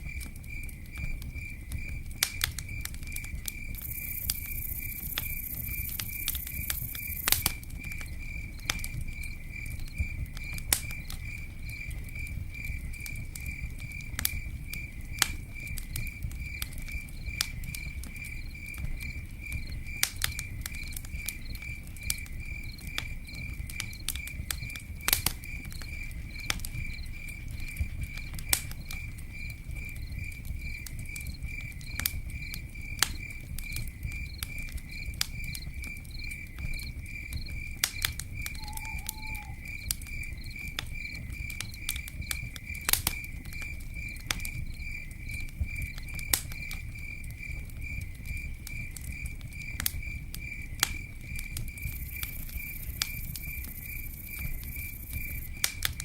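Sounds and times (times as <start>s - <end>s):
campfire crackling and popping: 0.0s - 56.0s
insect chirping: 2.7s - 24.8s, 28.9s - 55.6s.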